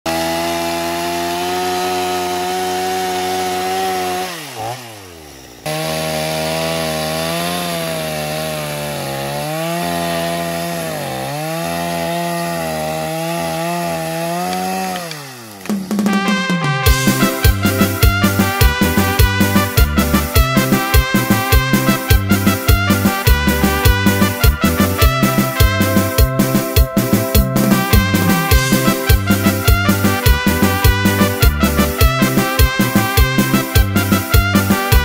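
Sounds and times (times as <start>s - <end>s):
chainsaw cutting log: 0.1s - 35.0s.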